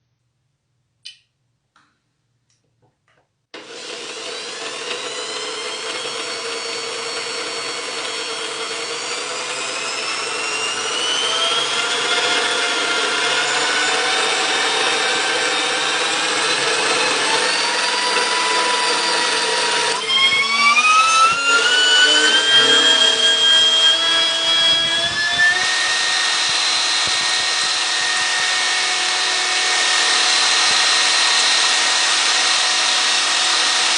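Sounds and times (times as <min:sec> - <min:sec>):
power tool motor whining: 0:03.6 - 0:33.9.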